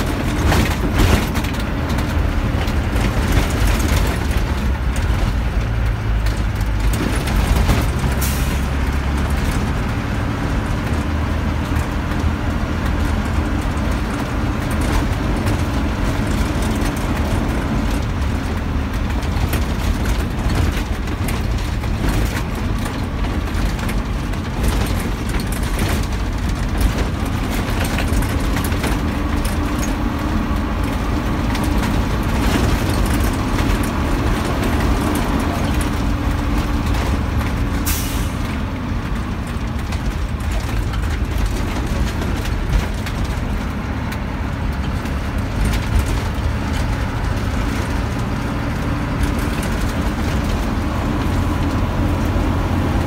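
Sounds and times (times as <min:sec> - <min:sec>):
engine and road rumble: 0:00.0 - 0:53.0.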